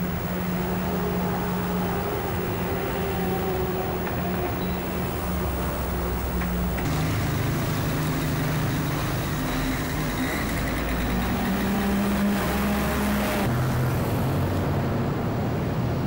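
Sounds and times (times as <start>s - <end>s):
bus engine passing: 0.0s - 16.0s
street traffic: 0.0s - 16.0s.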